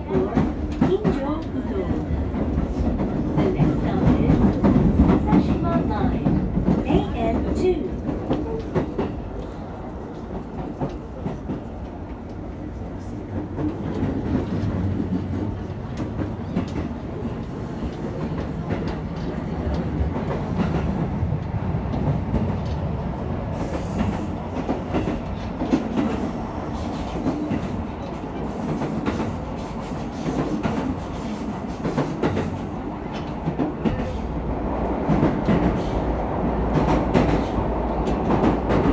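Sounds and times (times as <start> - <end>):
clickety-clack of rail joints: 0.0 - 38.9
train wheels rumbling on rail: 0.0 - 38.9.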